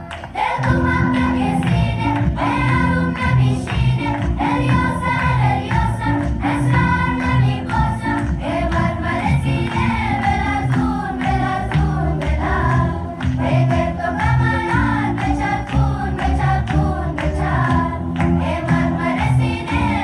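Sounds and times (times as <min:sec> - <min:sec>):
song with sung vocals: 0:00.0 - 0:20.0
held bass notes: 0:00.6 - 0:20.0.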